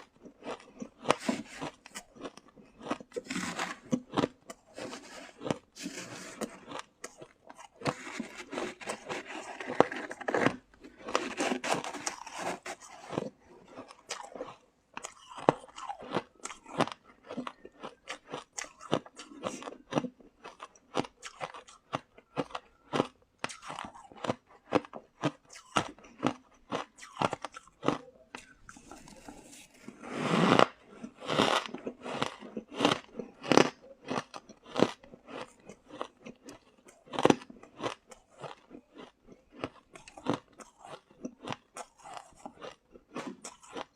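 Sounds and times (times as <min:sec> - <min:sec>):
shaved ice being chewed: 0:00.0 - 0:43.9.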